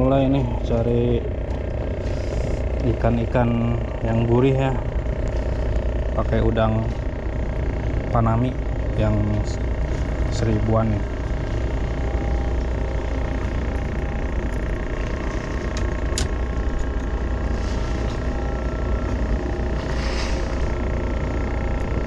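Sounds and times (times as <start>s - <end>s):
engine machinery drone: 0.0s - 22.0s
faint hum tones: 0.0s - 22.0s.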